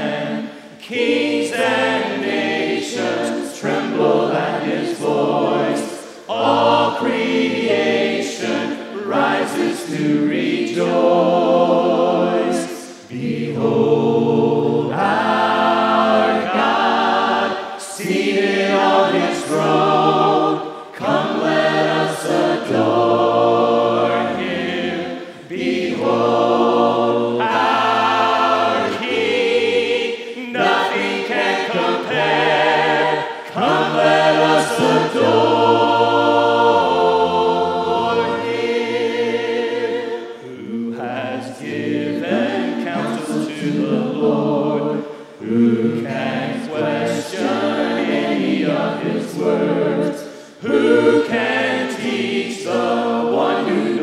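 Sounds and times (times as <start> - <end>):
choir singing a hymn a cappella: 0.0 - 54.0.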